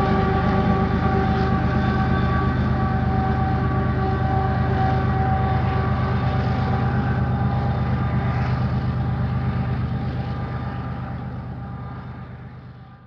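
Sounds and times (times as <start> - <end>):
diesel freight train engine drone: 0.0 - 13.0.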